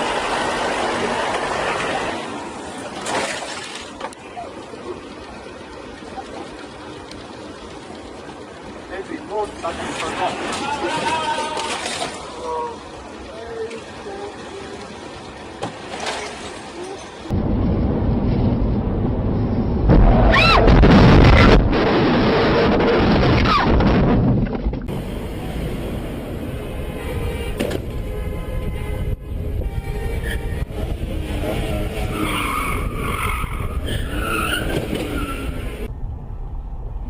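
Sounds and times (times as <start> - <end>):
wind and road noise rumble: 0.0 - 37.0.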